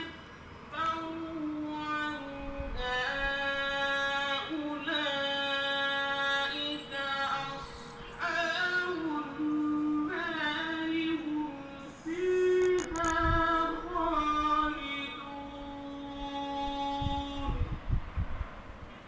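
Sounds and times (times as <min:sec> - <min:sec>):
man reciting melodically: 0:00.0 - 0:17.7.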